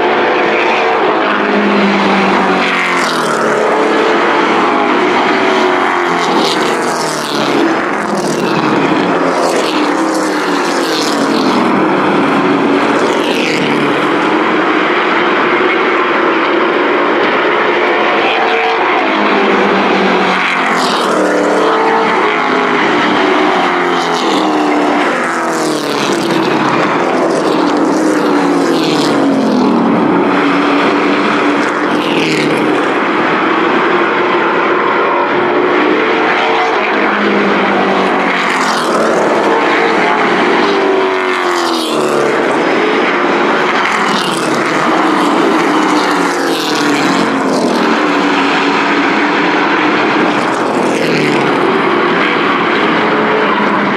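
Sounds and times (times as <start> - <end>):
racing truck engines at full throttle: 0.0 - 53.9.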